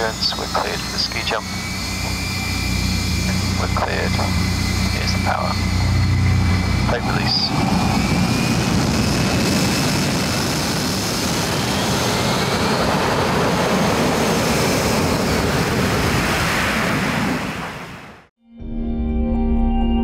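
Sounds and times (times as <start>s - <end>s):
loud jet engine noise: 0.0s - 18.3s.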